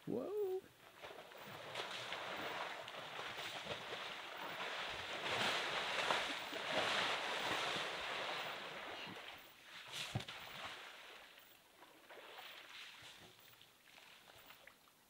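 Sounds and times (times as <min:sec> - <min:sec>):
elephant splashing in mud water: 0:00.8 - 0:14.6.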